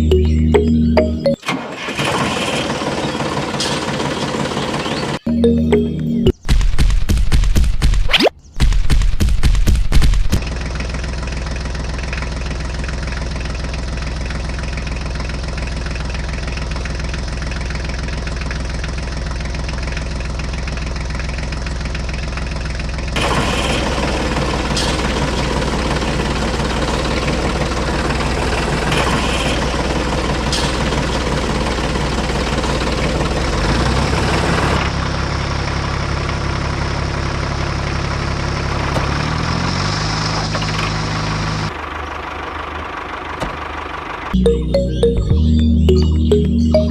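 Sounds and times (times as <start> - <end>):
diesel engine idling: 0.0 - 6.2, 10.4 - 39.9, 40.9 - 46.9.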